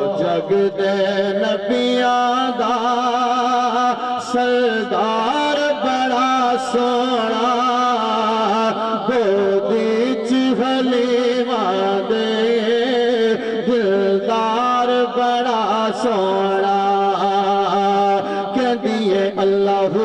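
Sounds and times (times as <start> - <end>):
man singing through a pa: 0.0 - 20.0.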